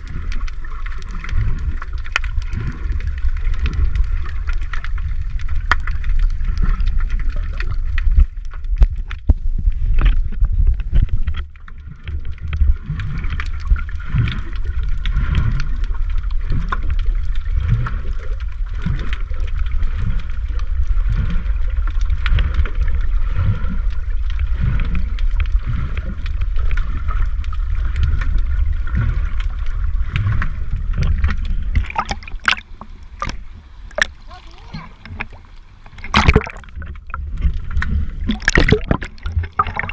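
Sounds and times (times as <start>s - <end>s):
soft underwater swishes: 0.0s - 39.9s
underwater low rumble: 0.0s - 39.9s
water splashes: 0.0s - 39.9s.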